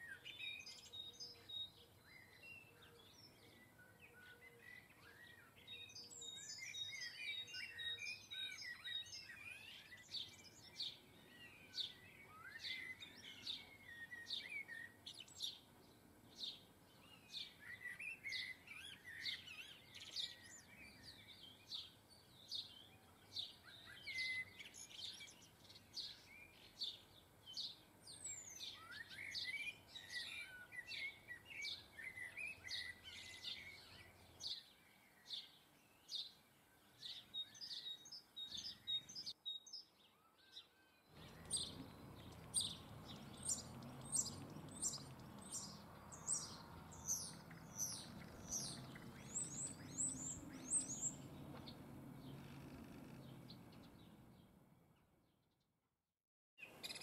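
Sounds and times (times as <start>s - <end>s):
birds twittering: 0.0s - 54.5s
small birds chirping: 0.0s - 55.7s, 56.6s - 57.0s
background noise: 0.0s - 55.9s, 56.6s - 57.0s.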